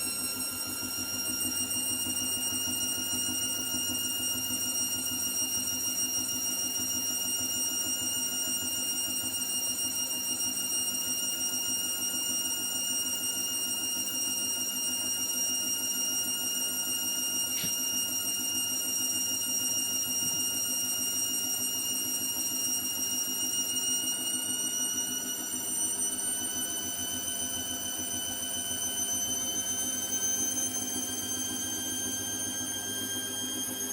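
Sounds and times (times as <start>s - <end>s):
washing machine spinning: 0.0s - 33.9s.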